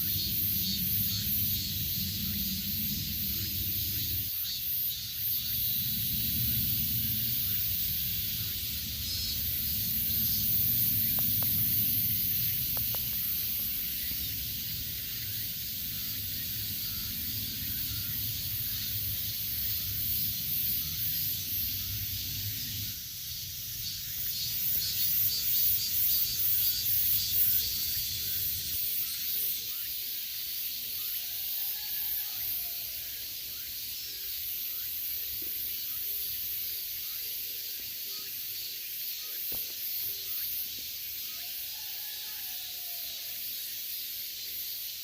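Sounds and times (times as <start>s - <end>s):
cicadas buzzing: 0.0s - 45.0s.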